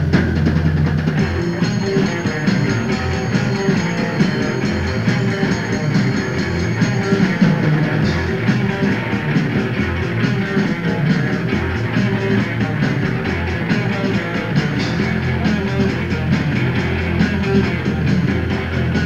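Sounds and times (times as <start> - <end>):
bass: 0.0 - 19.0
drums: 0.0 - 19.0
electric guitar: 0.0 - 19.0.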